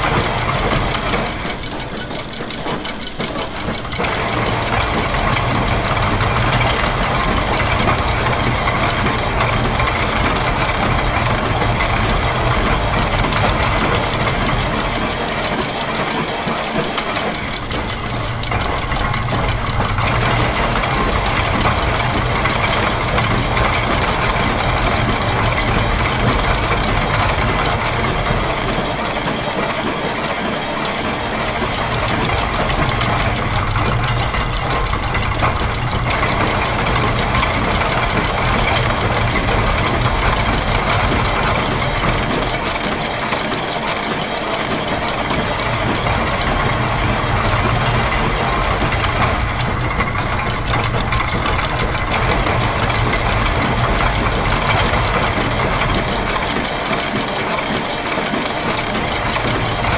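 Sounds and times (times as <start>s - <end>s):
clattering gears: 0.0s - 59.9s.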